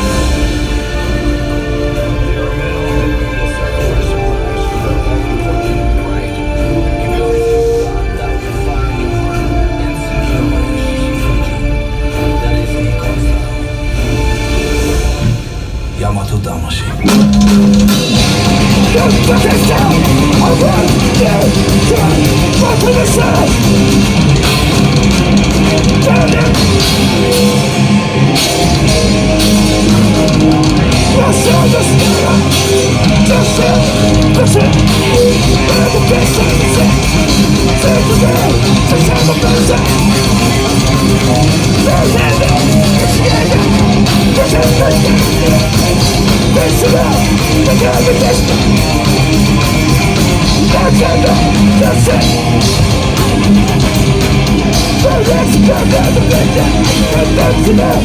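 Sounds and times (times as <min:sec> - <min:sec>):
bass: 0:00.0 - 0:58.0
distorted electric guitar: 0:00.0 - 0:58.0
drums: 0:00.0 - 0:58.0.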